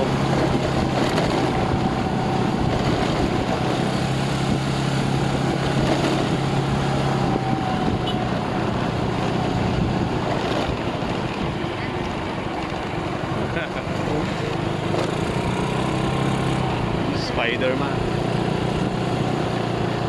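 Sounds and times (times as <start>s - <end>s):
small motorcycle engine running: 0.0s - 20.0s
wind and road noise: 0.0s - 20.0s.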